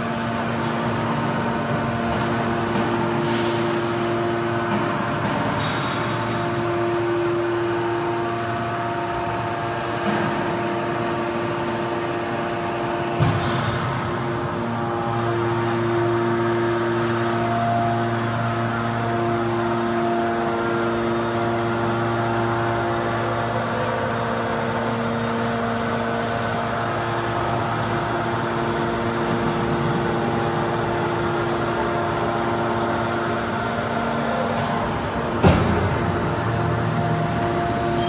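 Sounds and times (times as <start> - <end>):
hydraulic machine hum and whine: 0.0 - 38.0.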